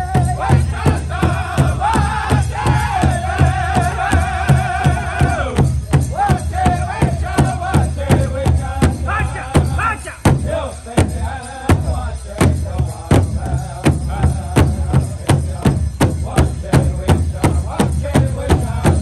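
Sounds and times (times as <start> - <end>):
group singing: 0.0 - 19.0
large drum beating: 0.0 - 19.0.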